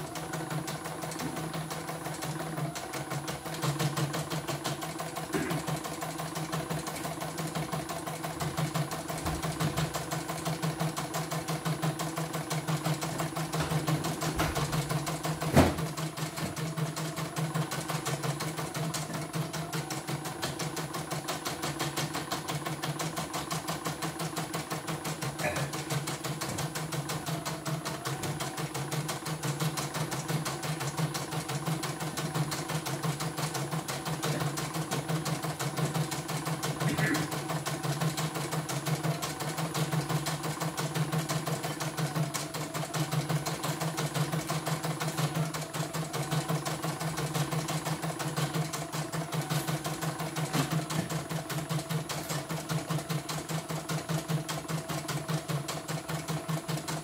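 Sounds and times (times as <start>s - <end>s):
embroidery machine stitching: 0.0s - 57.0s.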